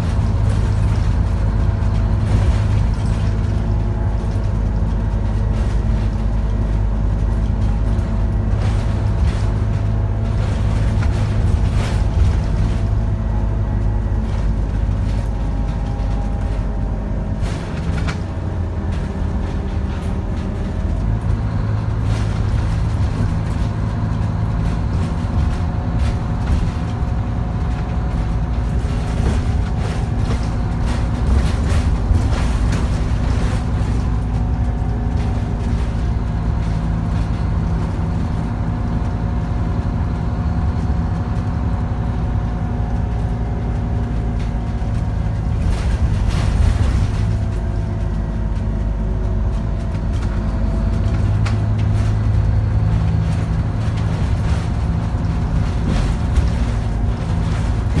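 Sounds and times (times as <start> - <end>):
bus diesel engine under load: 0.0 - 58.0
interior rattles and clicks: 0.0 - 58.0
whining drivetrain: 0.0 - 58.0.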